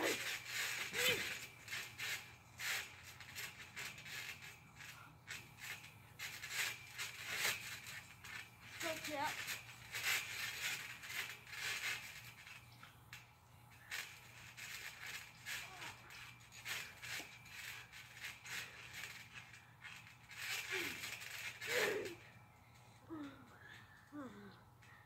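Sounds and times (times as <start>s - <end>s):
trampoline springs creaking and rattling: 0.0s - 25.0s.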